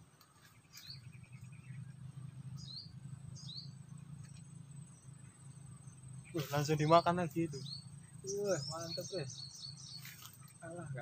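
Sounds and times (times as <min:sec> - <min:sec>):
bird twittering trill: 0:00.0 - 0:11.0
low steady rumble: 0:00.0 - 0:11.0
small birds chirping: 0:00.0 - 0:11.0.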